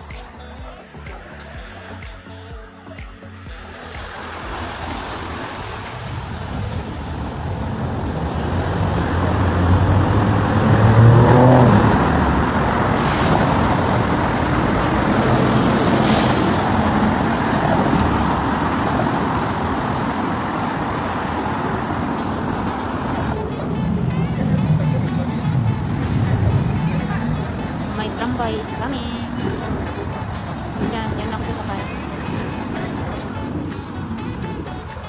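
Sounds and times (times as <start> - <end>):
steady traffic noise: 0.0 - 35.0
vehicle passing close: 3.6 - 35.0.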